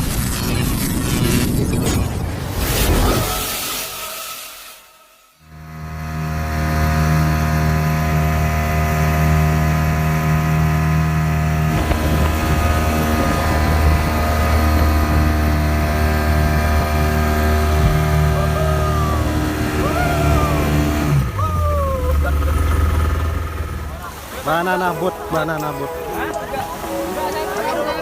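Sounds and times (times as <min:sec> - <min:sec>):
motorboat engine droning: 0:05.4 - 0:28.0.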